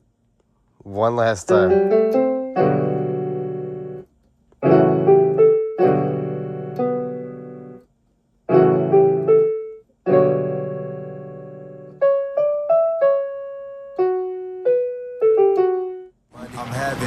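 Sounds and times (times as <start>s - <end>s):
piano chords and notes: 1.4s - 17.0s.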